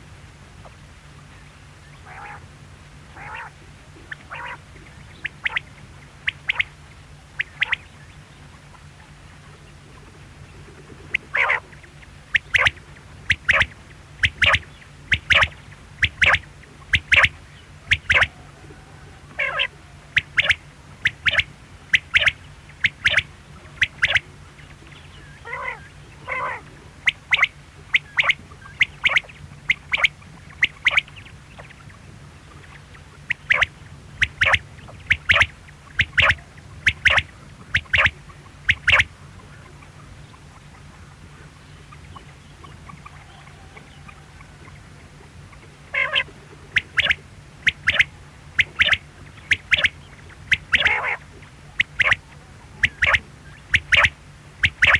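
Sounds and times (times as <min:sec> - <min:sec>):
quail calling: 0:01.9 - 0:54.9.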